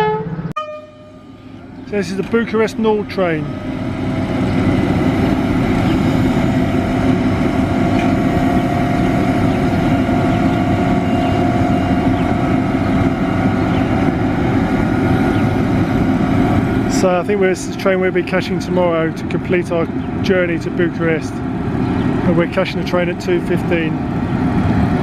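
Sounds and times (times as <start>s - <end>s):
locomotive rumbling: 0.0s - 25.0s
steady humming tones: 0.8s - 25.0s.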